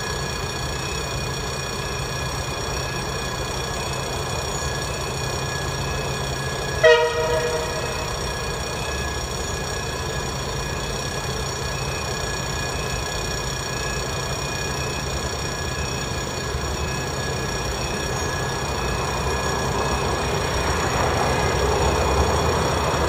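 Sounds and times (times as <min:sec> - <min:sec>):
thin high tones: 0:00.0 - 0:23.0
train low rumble: 0:00.0 - 0:23.0.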